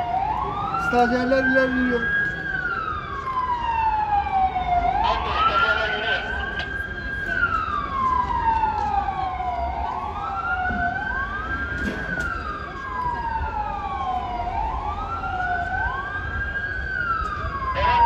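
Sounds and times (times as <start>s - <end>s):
fire engine sirens wailing: 0.0s - 18.0s.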